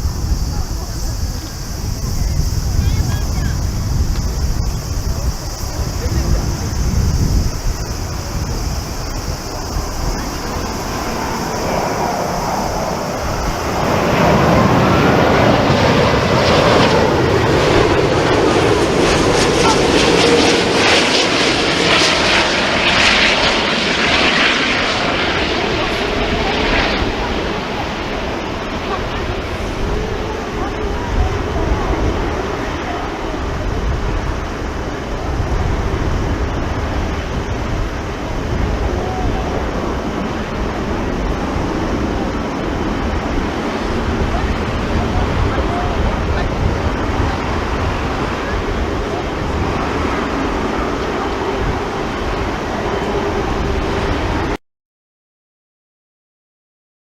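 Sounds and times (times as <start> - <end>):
jet engines with rising whine: 0.0 - 54.6
wind buffeting microphone: 0.0 - 54.6.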